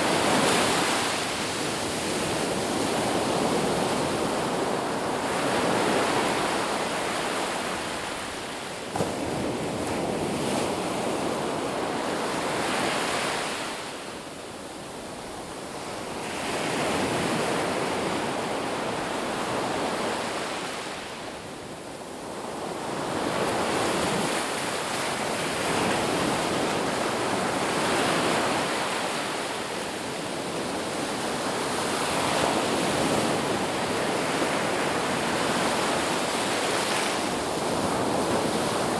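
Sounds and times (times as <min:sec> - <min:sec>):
ocean surf washing onto beach: 0:00.0 - 0:38.9.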